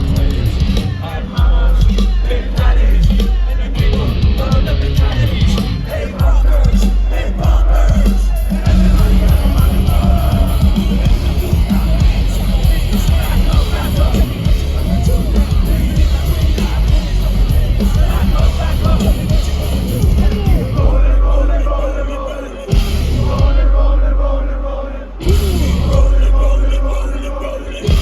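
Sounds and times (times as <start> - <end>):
crowd yelling and singing along: 0.0 - 28.0
live rap-metal band playing: 0.0 - 28.0
rapped vocals: 0.0 - 28.0.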